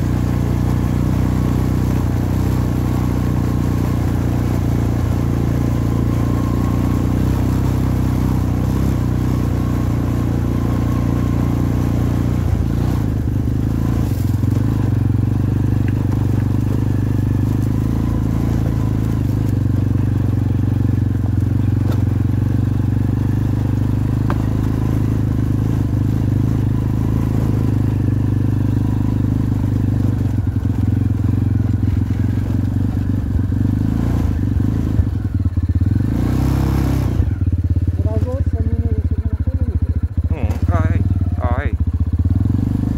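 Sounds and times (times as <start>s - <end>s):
quad bike engine running: 0.0s - 42.9s.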